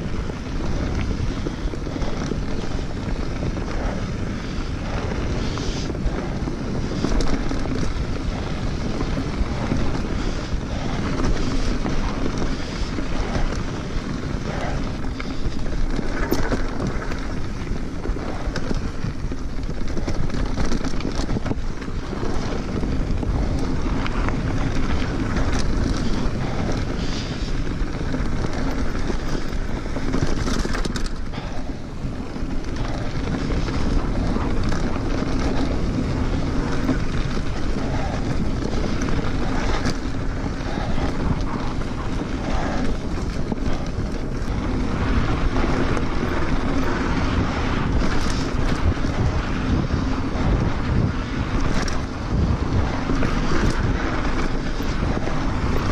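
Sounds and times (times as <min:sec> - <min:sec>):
bike clicks and rattles: 0:00.0 - 0:55.9
bike tyre noise: 0:00.0 - 0:55.9
wind rushing over microphone: 0:00.0 - 0:55.9.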